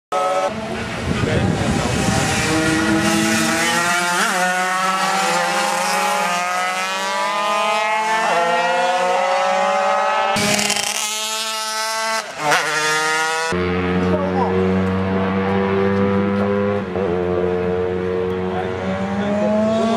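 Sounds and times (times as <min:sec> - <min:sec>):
racing motorcycles accelerating: 0:00.1 - 0:19.9.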